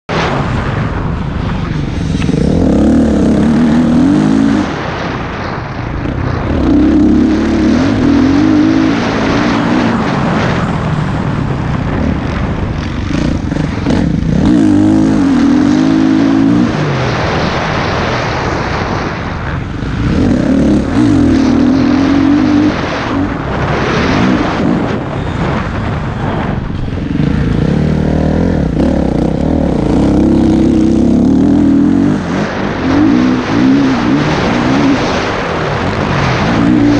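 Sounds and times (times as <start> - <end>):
high-revving racing engines: 0.1 - 36.9.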